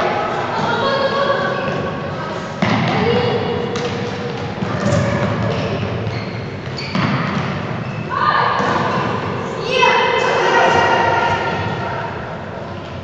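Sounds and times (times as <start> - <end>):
players' voices echoing: 0.0 - 13.0.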